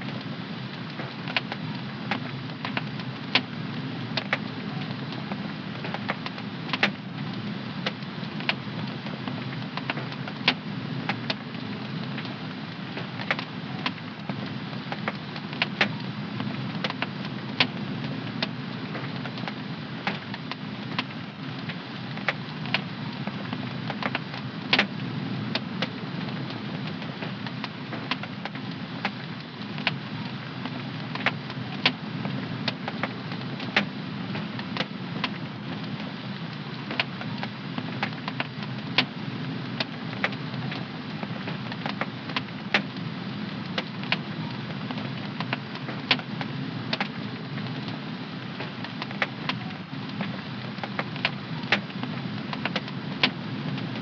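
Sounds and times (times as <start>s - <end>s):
fire crackles and pops: 0.0s - 54.0s
wood fire burning: 0.0s - 54.0s.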